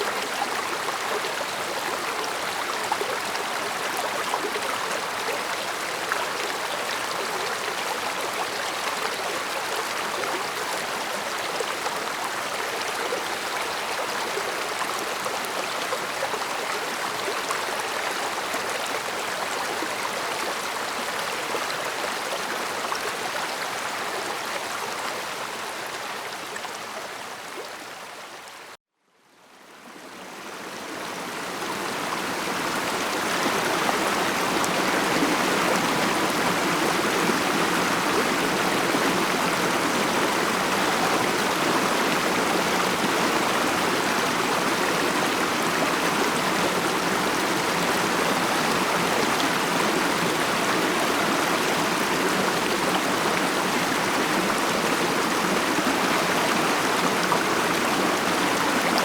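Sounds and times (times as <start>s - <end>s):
stream flowing over rocks: 0.0s - 28.7s, 29.4s - 59.0s.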